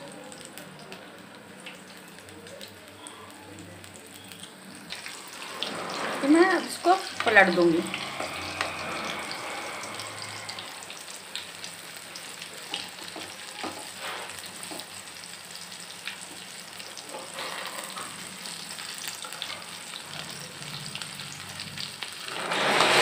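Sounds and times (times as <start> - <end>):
eggplant frying in hot oil: 0.0 - 23.0.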